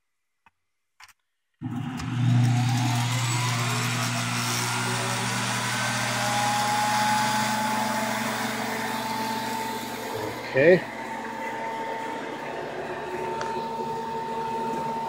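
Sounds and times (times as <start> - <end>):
vacuum motor humming and whining: 1.6 - 15.0.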